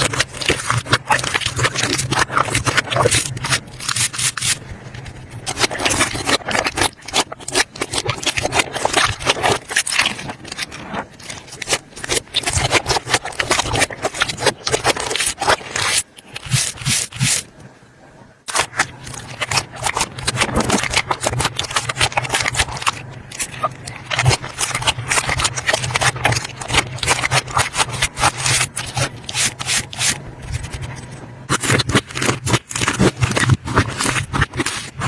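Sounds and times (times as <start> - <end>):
slime squishing with sticky pops: 0.0 - 17.5, 18.5 - 35.0.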